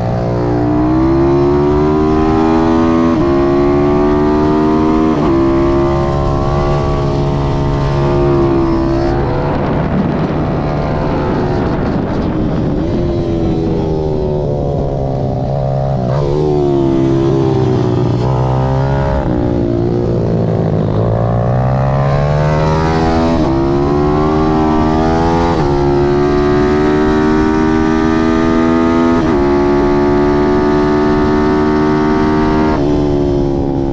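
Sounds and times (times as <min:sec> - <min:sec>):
motorbike engine revving through gears: 0:00.0 - 0:33.9.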